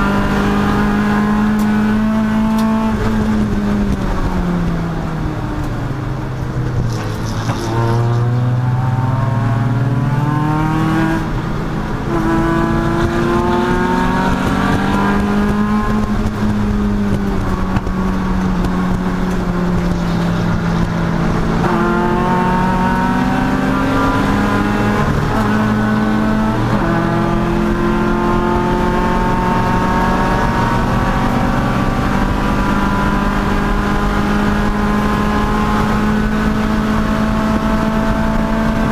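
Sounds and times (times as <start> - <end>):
race car engine accelerating: 0.0 - 5.2, 6.6 - 38.9.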